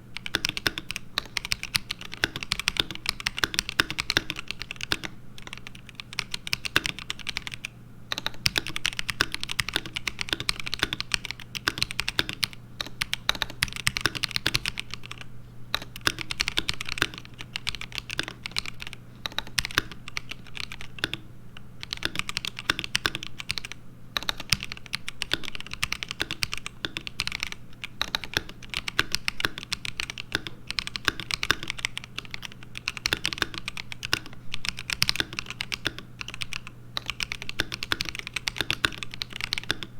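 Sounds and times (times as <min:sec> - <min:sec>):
steady low hum: 0:00.0 - 0:39.9
mechanical keyboard typing: 0:00.2 - 0:39.9.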